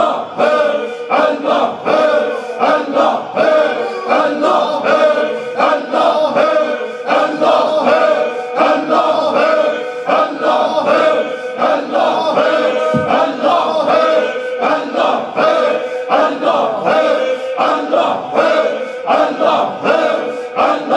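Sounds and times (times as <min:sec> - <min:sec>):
men chanting in unison: 0:00.0 - 0:20.9.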